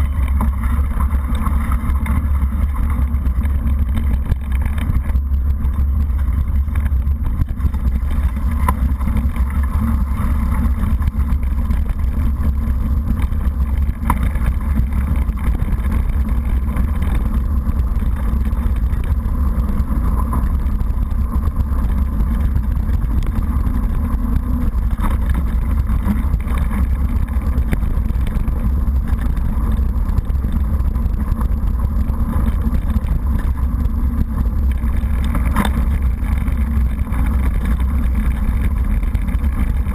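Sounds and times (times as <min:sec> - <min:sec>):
bike rumbling on gravel track: 0:00.0 - 0:39.9
wind rumble: 0:00.0 - 0:39.9.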